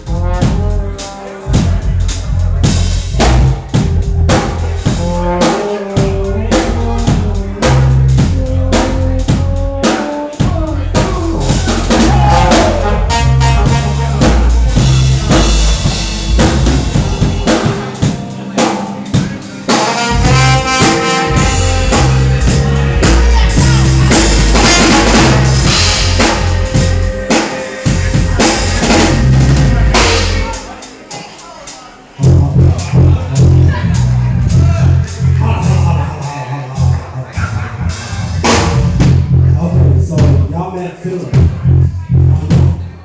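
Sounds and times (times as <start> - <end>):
drum kit: 0.0 - 40.6, 41.3 - 43.0
live band playing: 0.0 - 43.0.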